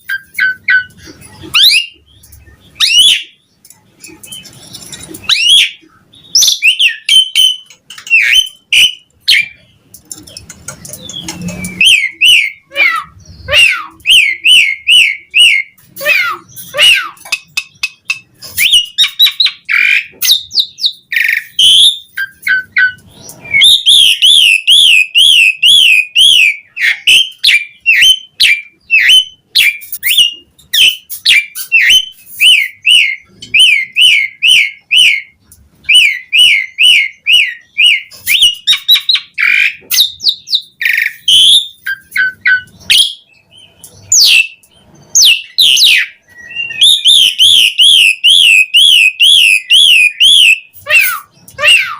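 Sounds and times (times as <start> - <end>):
starling singing: 0.0 - 51.9.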